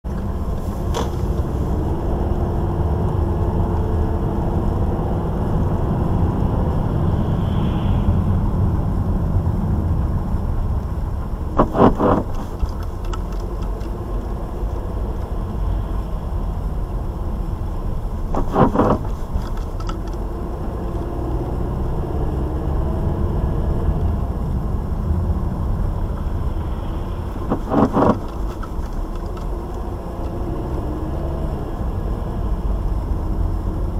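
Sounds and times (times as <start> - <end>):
car low rumble: 0.0 - 33.9.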